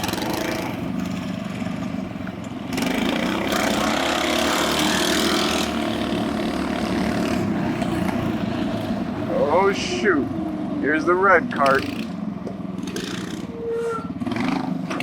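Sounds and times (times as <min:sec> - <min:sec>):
go-kart engine revving: 0:00.0 - 0:15.0.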